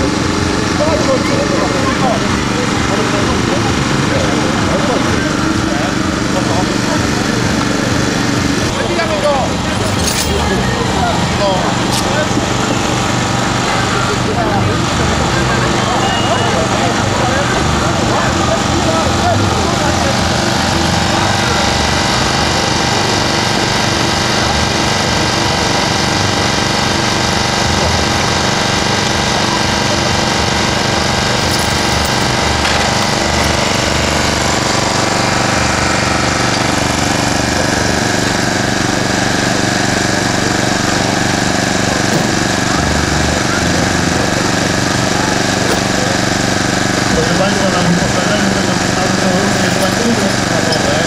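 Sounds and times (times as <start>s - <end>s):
small engine running: 0.0s - 51.0s.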